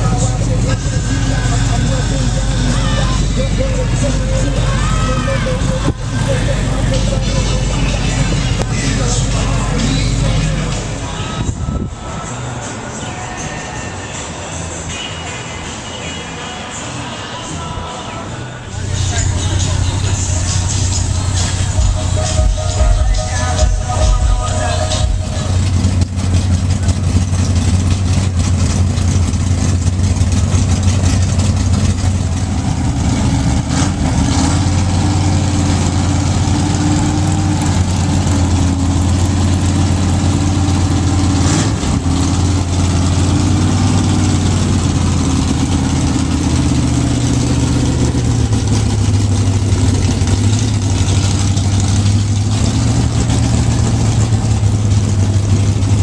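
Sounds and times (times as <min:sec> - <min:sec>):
race car engine idling: 0:00.0 - 0:14.9, 0:18.2 - 0:56.0.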